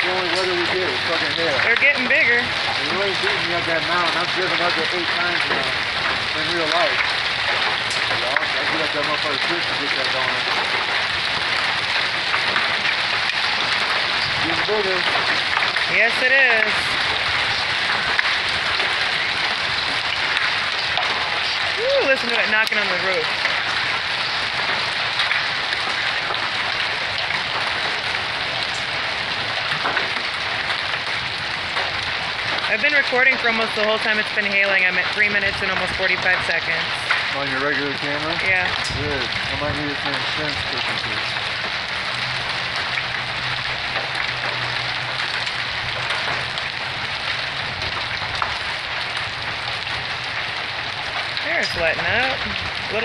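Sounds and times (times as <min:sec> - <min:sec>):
hail clattering on a roof: 0:00.0 - 0:53.0
hailstones knocking: 0:00.0 - 0:53.0.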